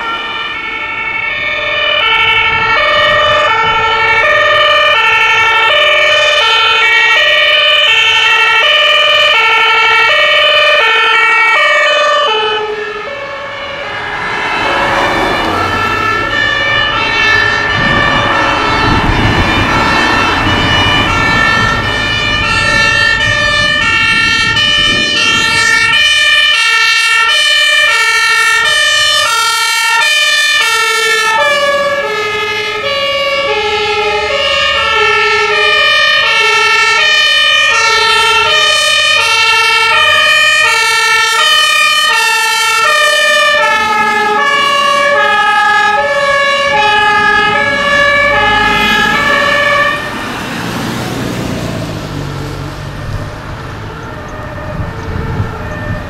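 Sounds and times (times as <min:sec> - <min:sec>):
fire truck driving past: 0:00.0 - 0:56.0
two-tone sirens: 0:00.0 - 0:56.0.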